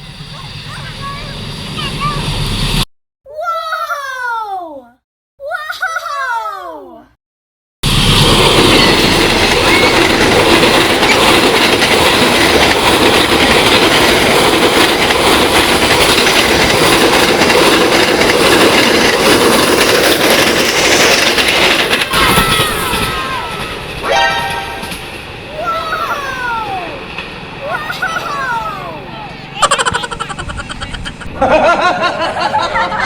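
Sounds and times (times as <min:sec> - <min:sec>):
train running on rails: 0:00.0 - 0:02.8, 0:07.8 - 0:33.0.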